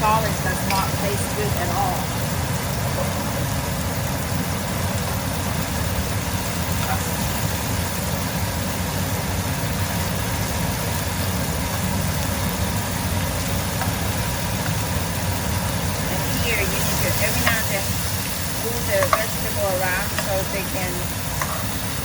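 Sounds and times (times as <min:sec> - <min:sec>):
food sizzling in oil: 0:00.0 - 0:22.0
steady low rumble: 0:00.0 - 0:22.0.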